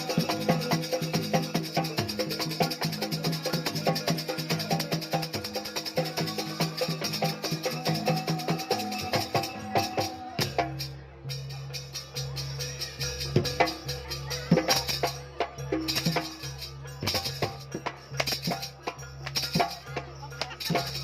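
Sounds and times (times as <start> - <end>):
rattling percussion: 0.0 - 21.0.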